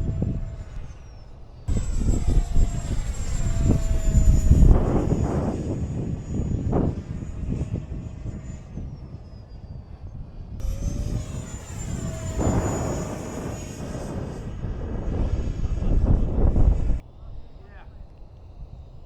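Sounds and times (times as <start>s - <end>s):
electric rc jet whining: 0.0s - 19.0s
rush of fan noise: 0.0s - 19.0s
wind buffeting microphone: 0.0s - 19.0s.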